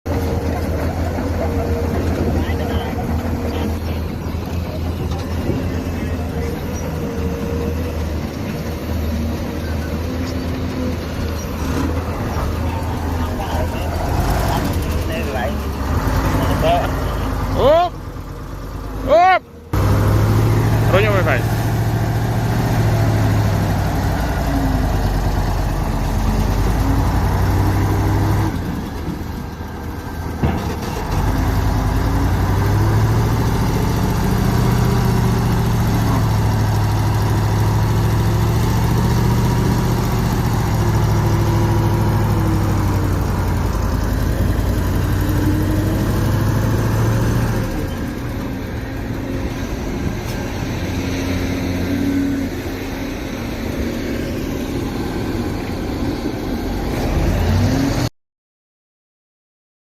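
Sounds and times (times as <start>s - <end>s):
diesel machinery engine running: 0.0s - 58.1s.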